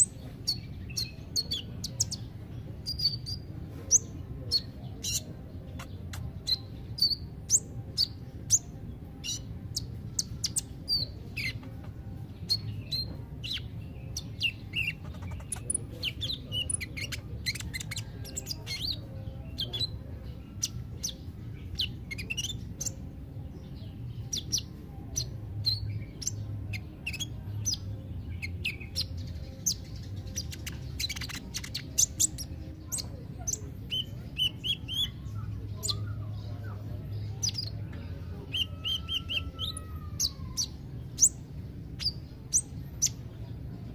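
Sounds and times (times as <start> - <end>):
sunbird singing high chirps: 0.0 - 43.9.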